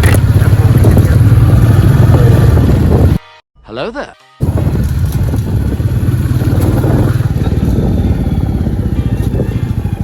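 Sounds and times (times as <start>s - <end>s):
motorcycle engine running: 0.0s - 3.2s, 4.4s - 10.0s.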